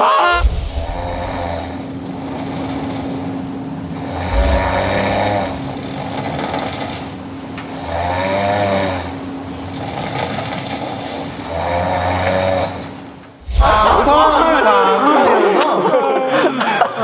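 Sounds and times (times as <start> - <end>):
faint steady hum: 0.0 - 17.0
person snoring loudly: 0.1 - 14.8.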